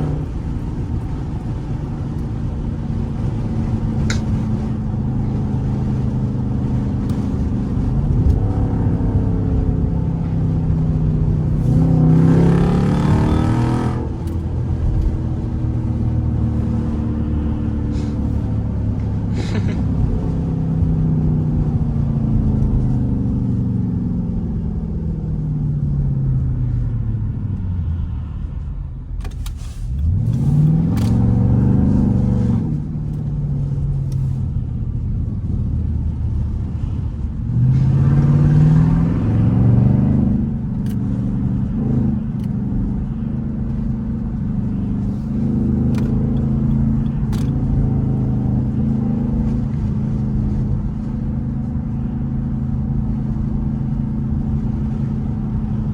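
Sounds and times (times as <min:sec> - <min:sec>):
car engine exhaust accelerating: 0:00.0 - 0:55.9.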